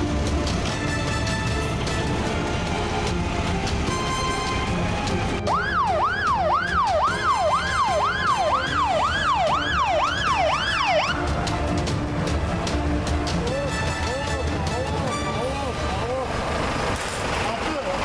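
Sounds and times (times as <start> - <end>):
emergency vehicle siren: 0.0 - 16.9
background music: 0.0 - 17.0.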